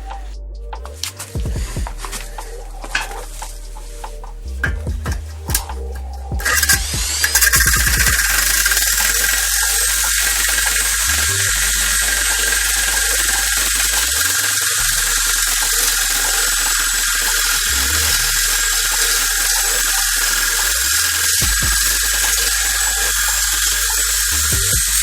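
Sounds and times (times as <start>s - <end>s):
angle grinder whining: 1.4s - 25.0s.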